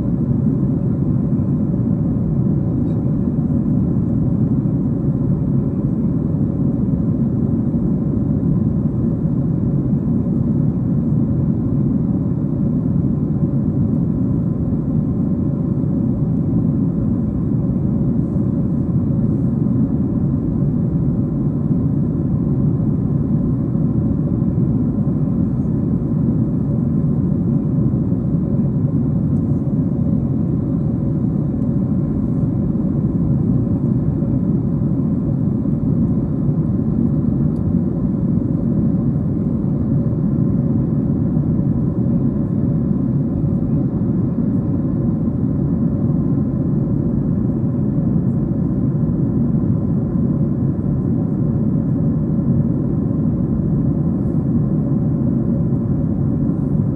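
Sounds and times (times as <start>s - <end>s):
airplane cabin rumble: 0.0s - 56.9s
faint steady hum: 0.0s - 56.9s.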